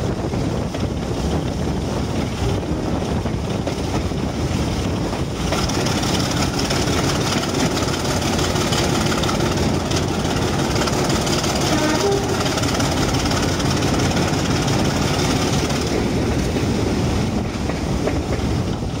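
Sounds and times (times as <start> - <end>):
diesel locomotive engine working: 0.0 - 19.0
wheel and rail noise: 0.0 - 19.0.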